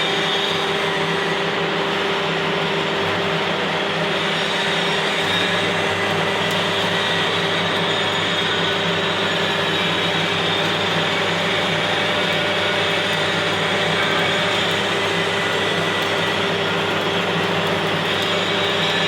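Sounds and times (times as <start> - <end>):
welding machine electrical hum: 0.0 - 19.0.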